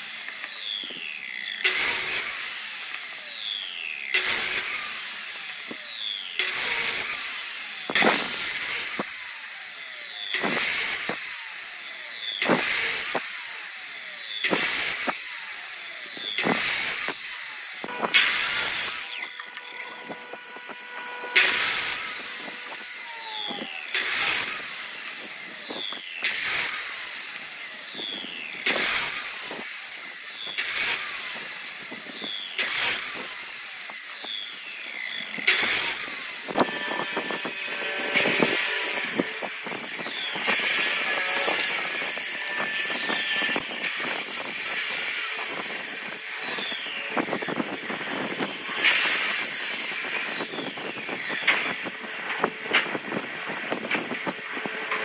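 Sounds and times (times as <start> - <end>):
miter saw cutting wood: 0.0 - 55.0
saw blade whine spinning down: 0.0 - 55.0.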